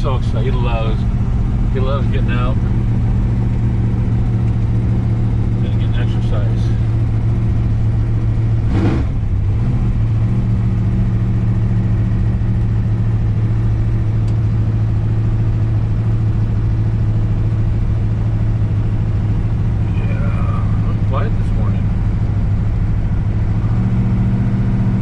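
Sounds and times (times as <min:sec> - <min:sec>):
car engine and road drone: 0:00.0 - 0:25.0.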